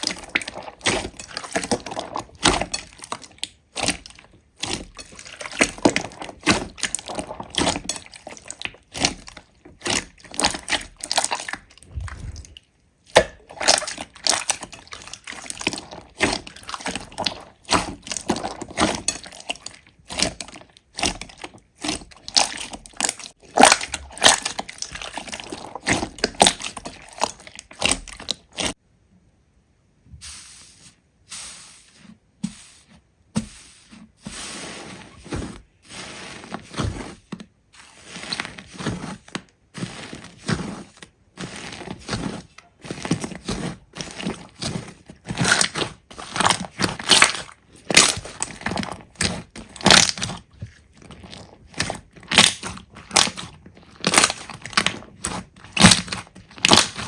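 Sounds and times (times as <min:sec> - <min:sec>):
slime squished by hand: 0:00.0 - 0:28.8, 0:34.9 - 0:57.0.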